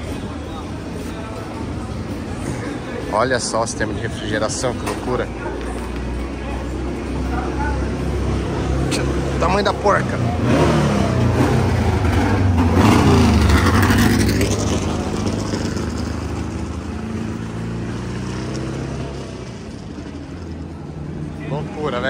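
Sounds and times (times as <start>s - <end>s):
vehicle engine running: 4.1s - 22.0s.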